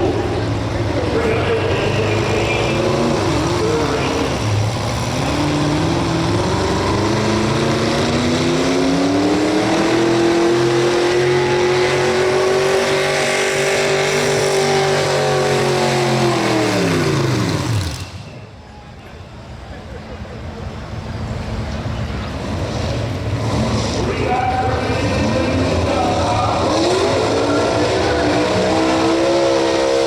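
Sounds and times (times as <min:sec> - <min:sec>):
pulling truck engine under load: 0:00.0 - 0:30.0.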